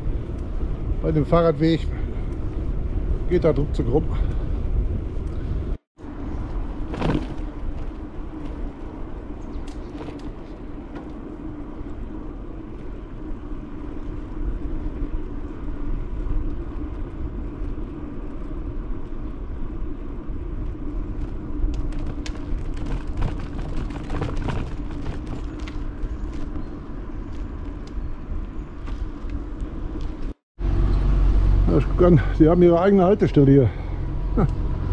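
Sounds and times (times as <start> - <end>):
bicycle tyre noise: 0.0 - 30.4.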